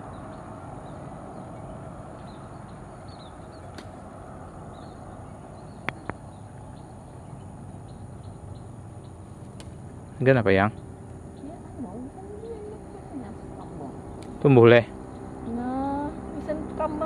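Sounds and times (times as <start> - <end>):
low rumble and hiss: 0.0 - 17.0.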